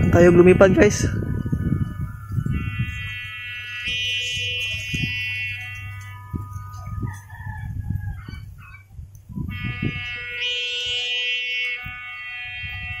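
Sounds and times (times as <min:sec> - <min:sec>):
kite hummer buzzing: 0:00.0 - 0:13.0
wind gusting on microphone: 0:00.0 - 0:13.0.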